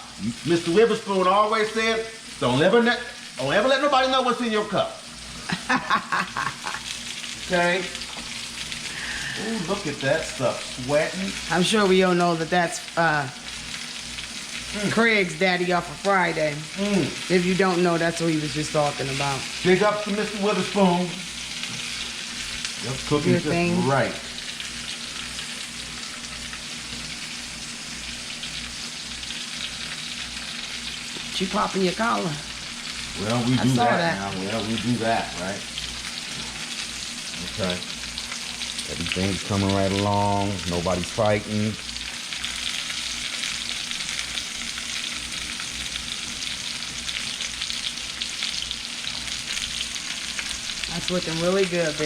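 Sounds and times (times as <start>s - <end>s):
food sizzling and crackling: 0.0s - 52.0s.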